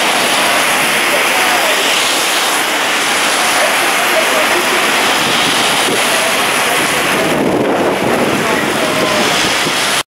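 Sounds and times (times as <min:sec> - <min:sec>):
car tyres swishing on wet road: 0:00.0 - 0:10.0
heavy rain on pavement: 0:00.0 - 0:10.0.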